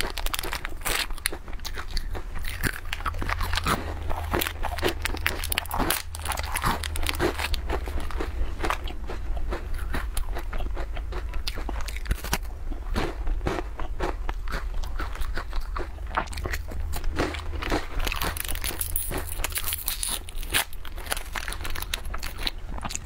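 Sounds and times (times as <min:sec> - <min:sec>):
crunchy snack chewing: 0:00.0 - 0:23.0
steady low hum: 0:00.0 - 0:23.0.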